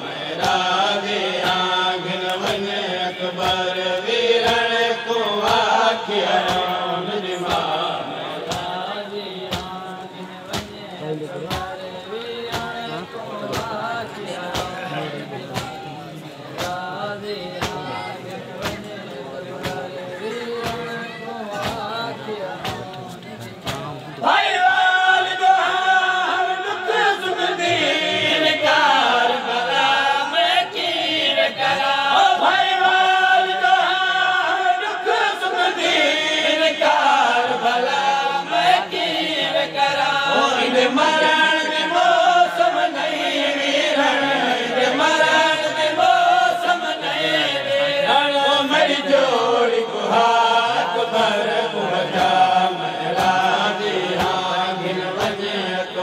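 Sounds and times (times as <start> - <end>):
man reciting into a microphone: 0.0 - 56.0
men chanting a lament: 0.0 - 56.0.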